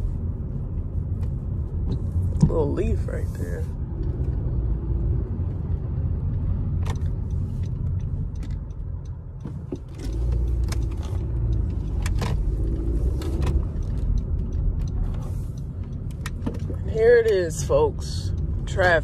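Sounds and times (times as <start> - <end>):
car engine rumble inside cabin: 0.0 - 19.0.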